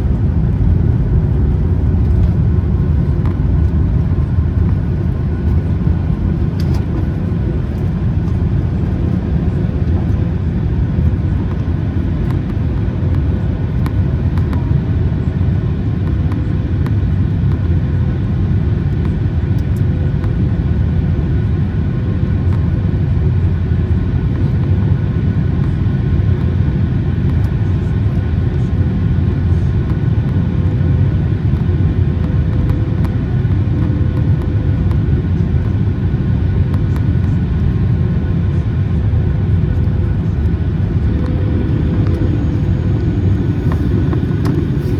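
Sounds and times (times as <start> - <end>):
steady cabin hum: 0.0 - 18.0, 26.5 - 44.9
airliner cabin rumble: 0.0 - 44.9.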